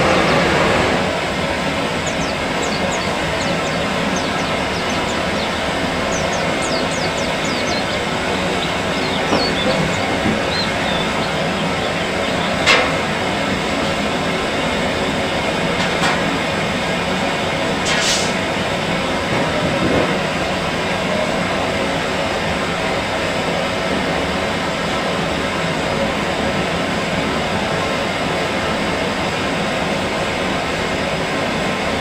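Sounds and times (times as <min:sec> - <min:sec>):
loud continuous rumbling: 0:00.0 - 0:32.0.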